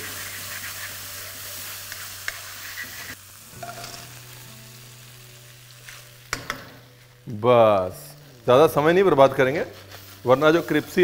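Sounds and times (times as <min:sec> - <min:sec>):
sauce sizzling in wok: 0:00.0 - 0:11.0.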